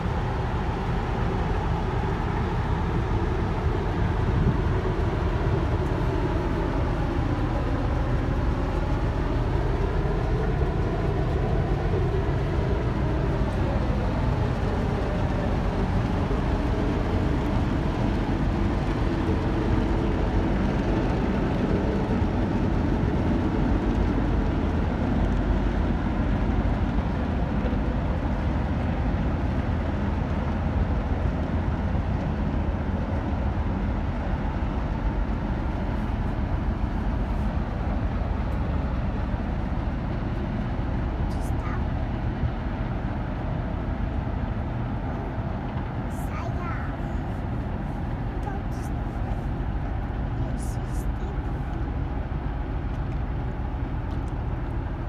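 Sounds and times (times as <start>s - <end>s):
ship diesel engine rumbling: 0.0s - 55.0s.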